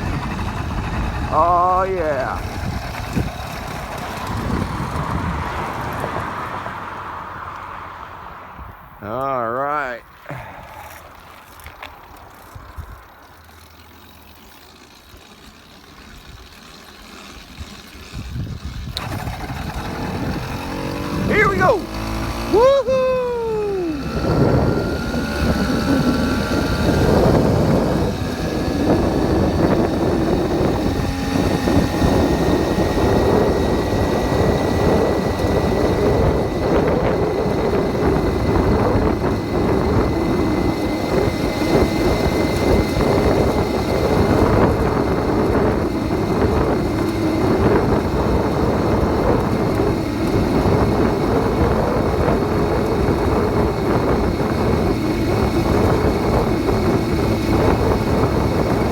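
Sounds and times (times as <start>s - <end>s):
small bicycle engine running: 0.0s - 7.0s, 10.2s - 58.9s
wind buffeting microphone: 0.0s - 7.5s, 12.3s - 13.2s, 17.4s - 58.9s.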